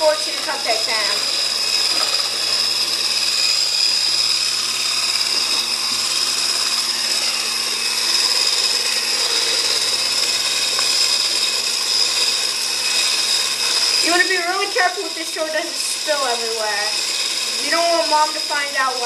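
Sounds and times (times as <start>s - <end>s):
electric mixer whining: 0.0s - 19.0s.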